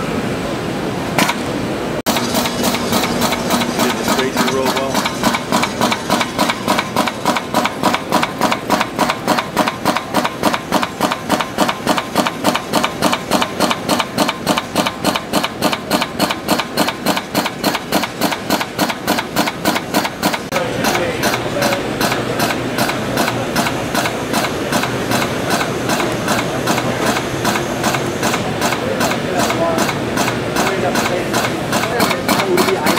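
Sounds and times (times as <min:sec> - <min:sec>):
cutter machine rapid clacking: 0:02.1 - 0:32.9.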